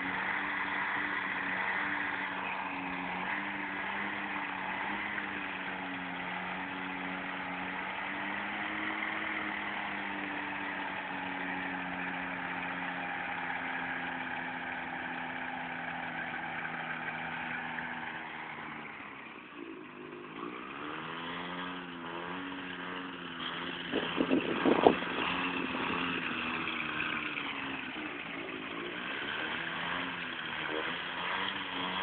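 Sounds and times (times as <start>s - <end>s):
ultralight engine and propeller: 0.0s - 32.0s.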